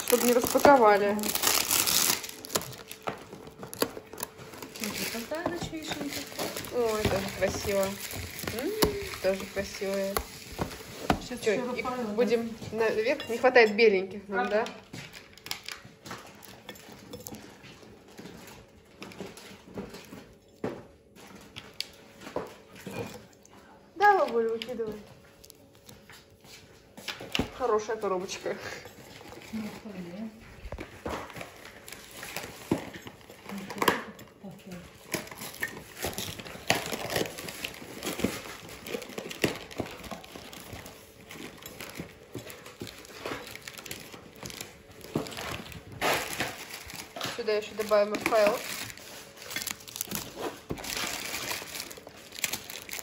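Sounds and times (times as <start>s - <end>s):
foil wrapper rustling: 0.0s - 13.9s, 14.9s - 20.4s, 24.0s - 53.0s.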